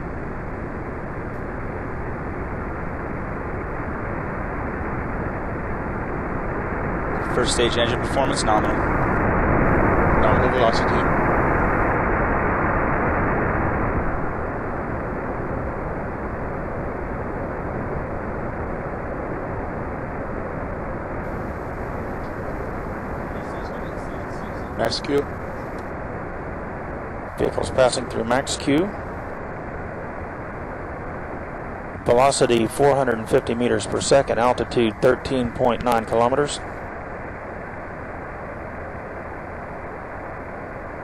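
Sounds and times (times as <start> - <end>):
rocket engine rumble: 0.0 - 41.0.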